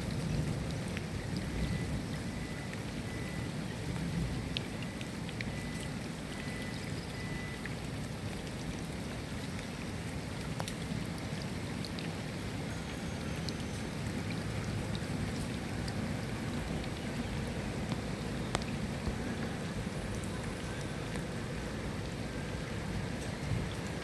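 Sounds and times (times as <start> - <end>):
raindrops ticking: 0.0 - 24.0
steady rain hiss: 0.0 - 24.0.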